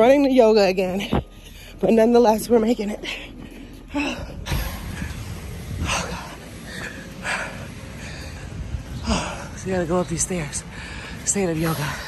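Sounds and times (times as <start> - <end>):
wind rumble: 0.0 - 12.0.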